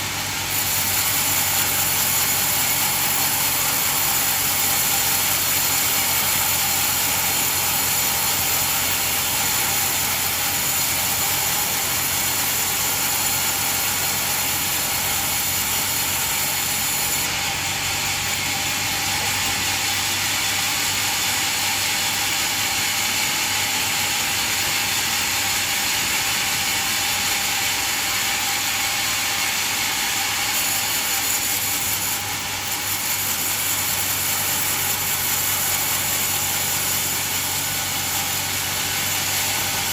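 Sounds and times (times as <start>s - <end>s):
band sawmill running: 0.0s - 39.9s.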